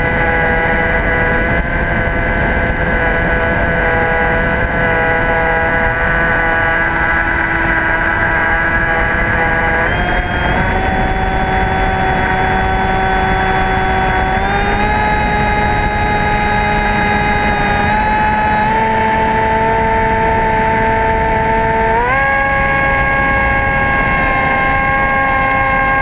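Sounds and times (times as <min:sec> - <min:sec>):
electric motor and propeller whining: 0:00.0 - 0:26.0
wind rushing past microphone: 0:00.0 - 0:26.0.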